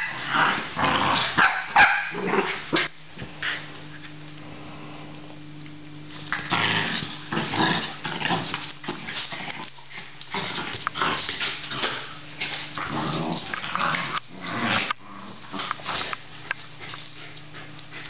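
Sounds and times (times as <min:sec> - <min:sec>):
dogs growling and snarling: 0:00.0 - 0:01.4, 0:02.0 - 0:04.1, 0:06.2 - 0:18.0.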